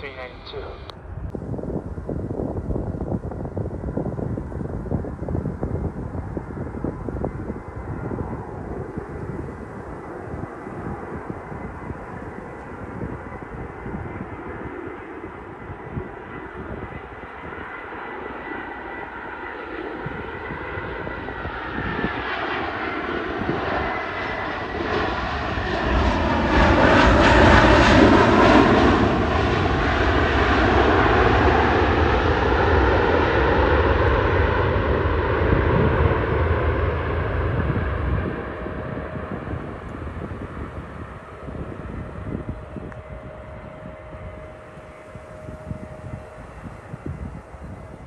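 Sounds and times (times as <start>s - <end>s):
airliner engine noise: 0.0s - 48.0s
falling jet whine: 0.0s - 48.0s
low rumble: 0.0s - 48.0s.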